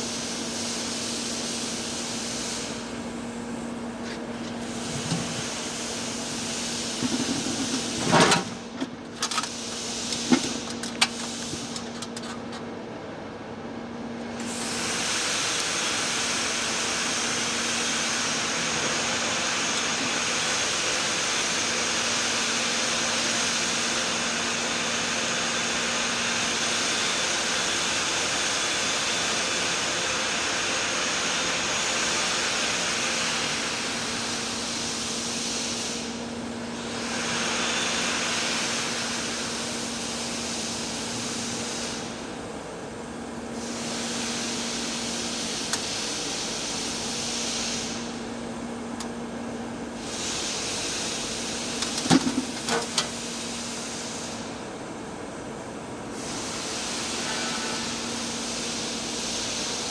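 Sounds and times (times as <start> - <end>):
welding arc hiss: 0.0 - 12.3, 14.4 - 54.8, 56.0 - 59.9.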